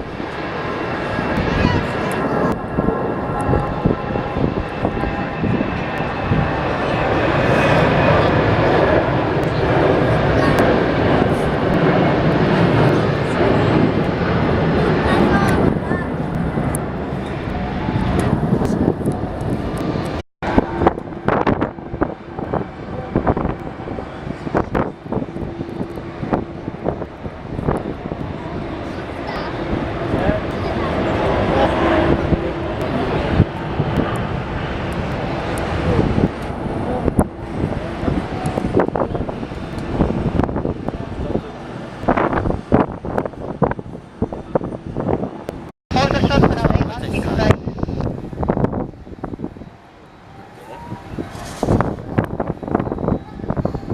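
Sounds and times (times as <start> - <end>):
jet engine noise: 0.0 - 53.9
wind buffeting microphone: 0.0 - 53.9.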